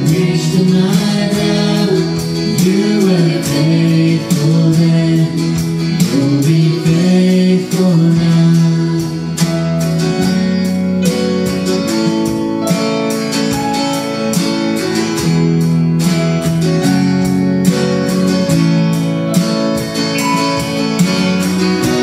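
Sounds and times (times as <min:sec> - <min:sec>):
strummed acoustic guitar chords: 0:00.0 - 0:22.0
worship band playing: 0:00.0 - 0:22.0.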